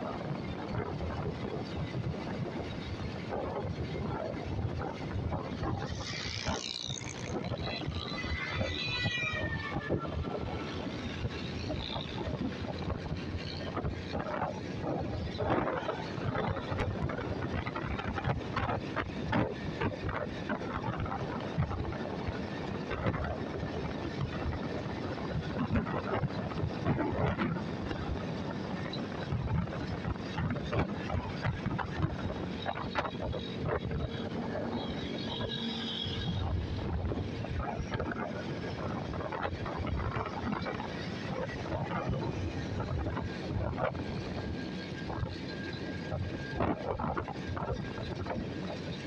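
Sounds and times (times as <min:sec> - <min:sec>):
vehicle road noise: 0:00.0 - 0:49.0
wind buffeting microphone: 0:00.0 - 0:49.0.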